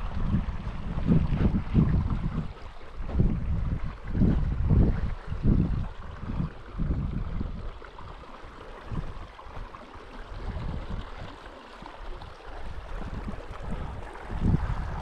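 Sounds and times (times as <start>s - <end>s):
small stream running: 0.0s - 15.0s
wind buffeting microphone: 0.0s - 15.0s.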